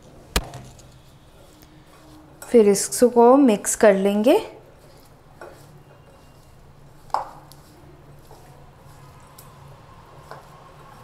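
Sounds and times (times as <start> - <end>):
potatoes squishing in bowl: 0.4 - 11.0.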